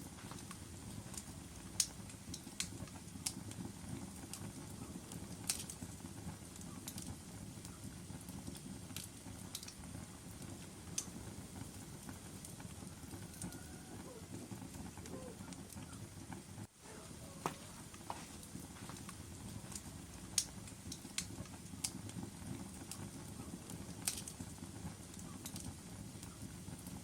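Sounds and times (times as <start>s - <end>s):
fire rumbling: 0.0s - 27.0s
logs crackling and popping: 0.0s - 27.0s.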